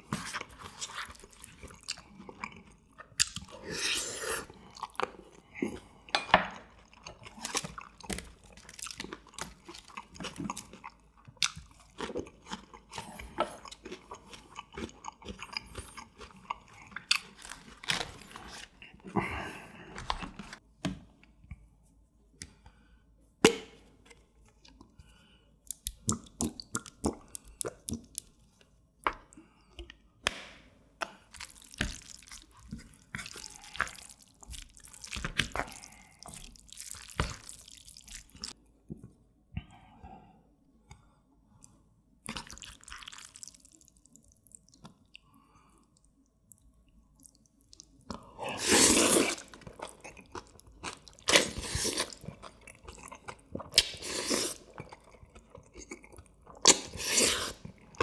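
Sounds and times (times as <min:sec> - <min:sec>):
person chewing food: 0:00.0 - 0:20.6, 0:23.6 - 0:30.2, 0:31.0 - 0:38.7, 0:40.8 - 0:58.0.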